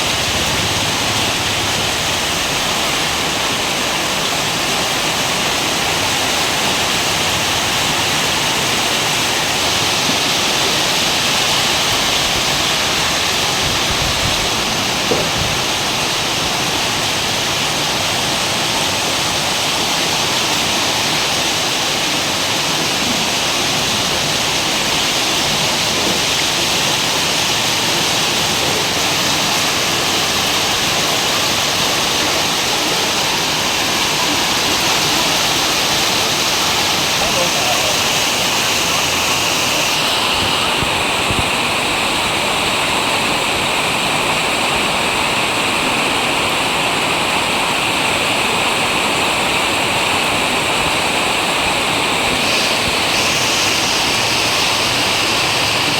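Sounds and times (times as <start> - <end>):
heavy rain downpour: 0.0 - 55.9.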